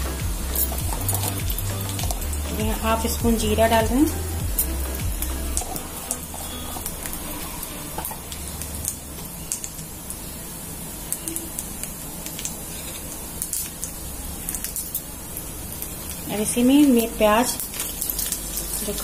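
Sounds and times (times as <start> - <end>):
crackles and pops: 0.0 - 19.0
spices sizzling in hot oil: 0.0 - 19.0.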